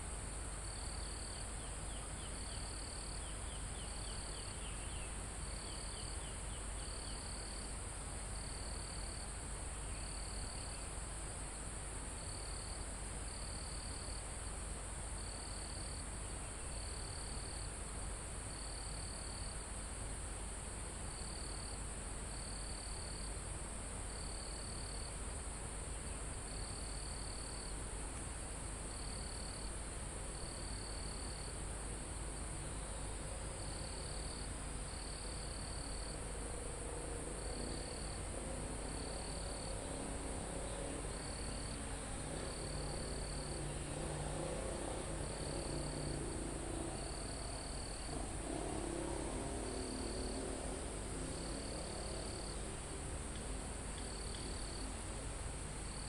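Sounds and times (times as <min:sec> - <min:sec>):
cricket chirping: 0:00.0 - 0:56.0
insect chorus: 0:00.0 - 0:56.0.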